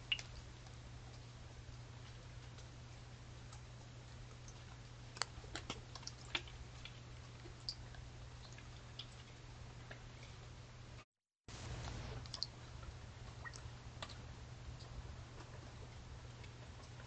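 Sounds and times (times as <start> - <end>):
low electrical hum: 0.0 - 17.0
faint clicks and ticks: 0.1 - 10.6, 11.7 - 17.0.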